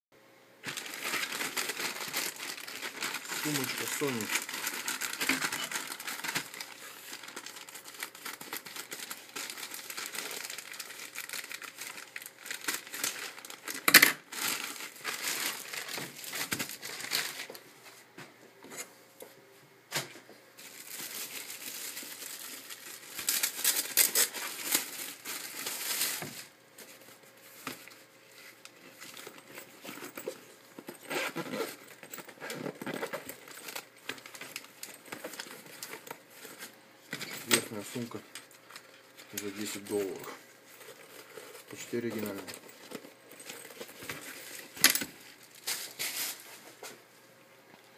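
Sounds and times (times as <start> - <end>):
plastic packaging crinkling and tearing: 0.6 - 17.6, 20.6 - 46.8.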